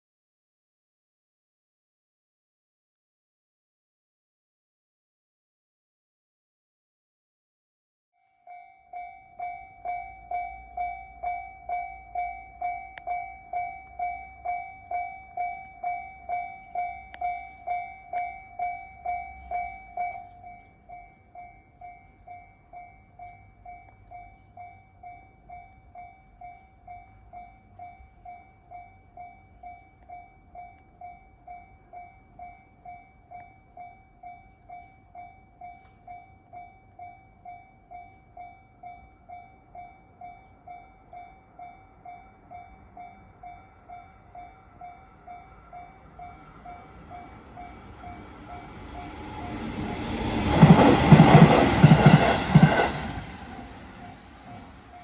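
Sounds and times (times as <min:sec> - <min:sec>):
level crossing warning bell: 0:08.2 - 0:55.0.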